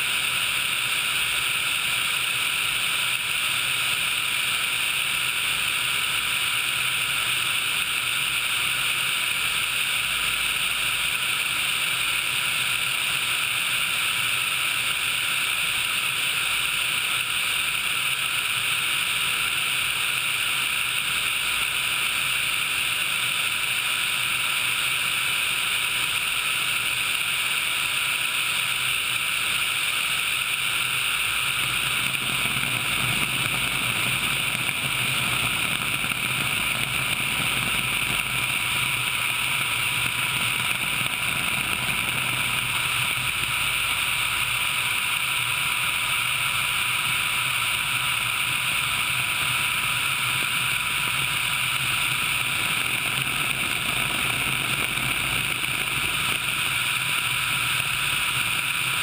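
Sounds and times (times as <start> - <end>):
faint steady whine: 0.0 - 59.0
helicopter engine and rotor noise: 0.0 - 59.0.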